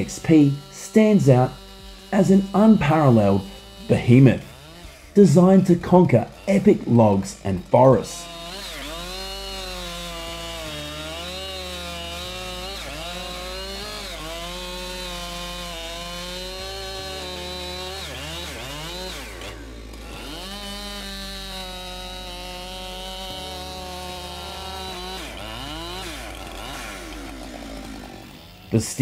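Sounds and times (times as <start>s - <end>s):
chainsaw cutting log: 0.0s - 29.0s.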